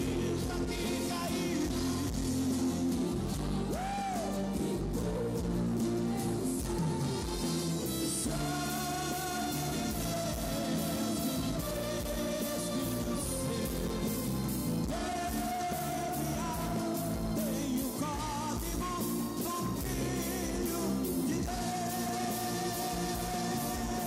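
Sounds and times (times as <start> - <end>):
gospel singing with backing vocals: 0.0 - 24.0
guitars: 0.0 - 24.0.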